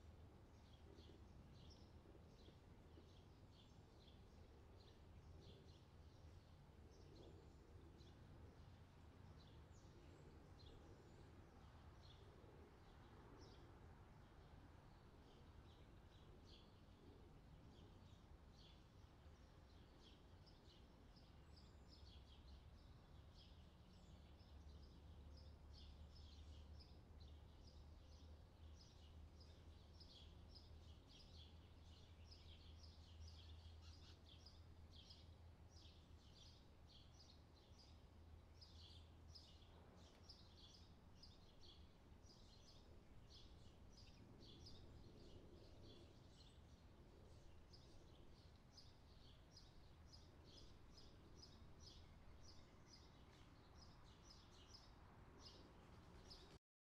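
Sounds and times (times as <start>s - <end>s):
faint birds chirping: 0.0s - 56.6s.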